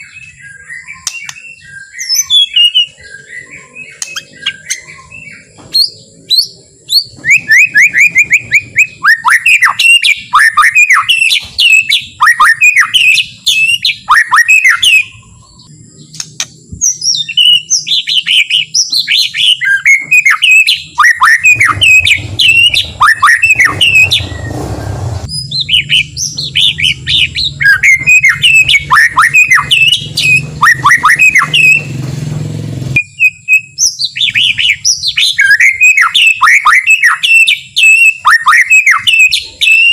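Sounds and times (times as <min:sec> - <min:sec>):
bird singing whistles: 0:00.0 - 0:31.9, 0:33.0 - 0:39.9.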